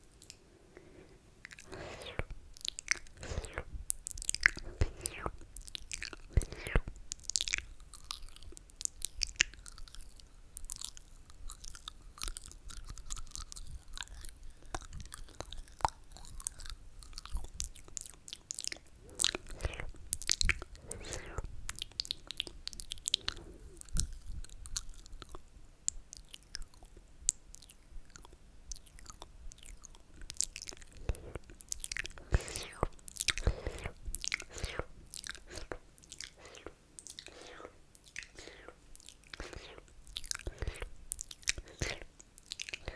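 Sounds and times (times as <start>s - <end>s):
wet mouth slurping and smacking: 0.0s - 25.5s, 26.1s - 42.9s.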